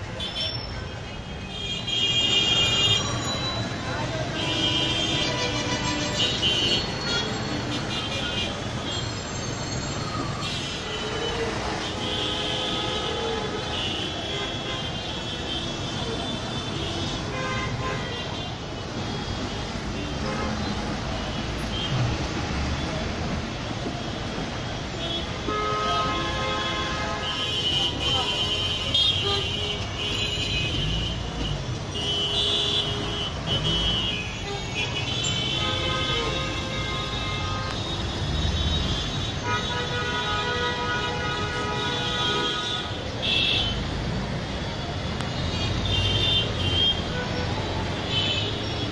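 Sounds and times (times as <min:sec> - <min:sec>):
vehicle horns: 0:00.0 - 0:09.3, 0:10.3 - 0:22.4, 0:24.8 - 0:44.0, 0:44.6 - 0:48.9
passing traffic: 0:00.0 - 0:48.9.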